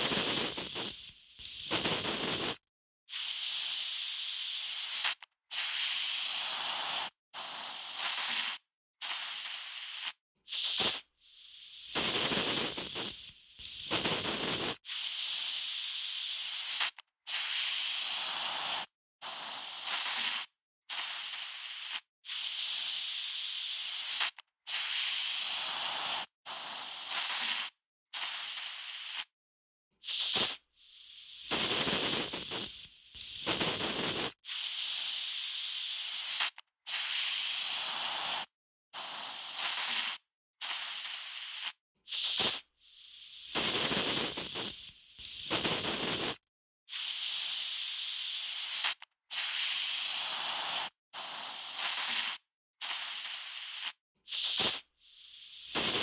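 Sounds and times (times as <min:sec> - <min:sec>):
aerosol spray can hissing: 0:00.0 - 0:29.3, 0:30.0 - 0:56.0.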